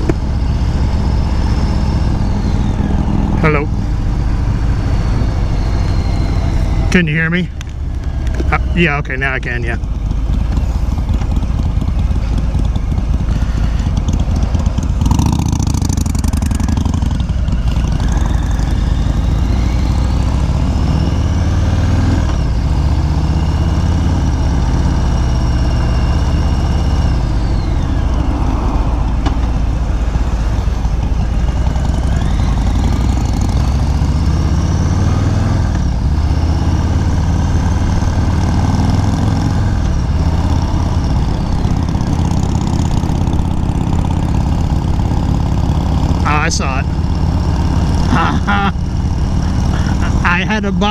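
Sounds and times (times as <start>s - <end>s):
motorcycle engine rumble: 0.0s - 50.9s.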